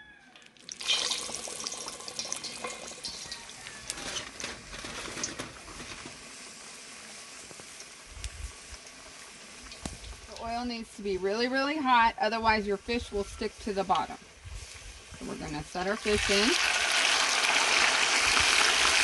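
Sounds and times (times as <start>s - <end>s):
onion sizzling in hot oil: 0.5s - 19.0s.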